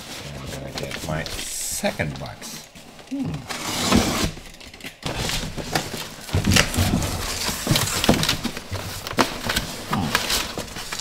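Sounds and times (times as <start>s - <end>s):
cardboard flaps scraping and rustling: 0.0s - 11.0s.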